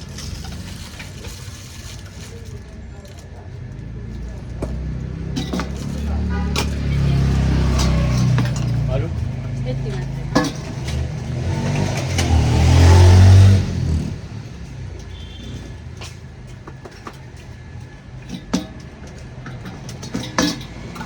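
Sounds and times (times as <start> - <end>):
street noise: 0.0 - 21.0
vehicle engine running: 0.0 - 21.0.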